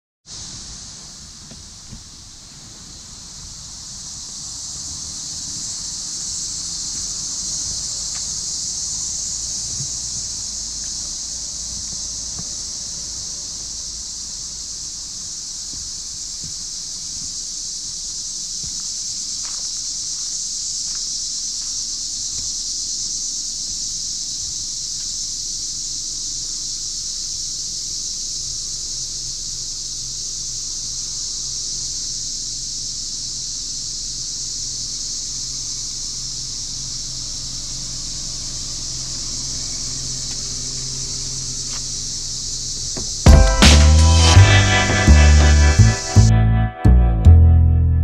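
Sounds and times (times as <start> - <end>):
crickets and katydids chirping: 0.3 - 44.4.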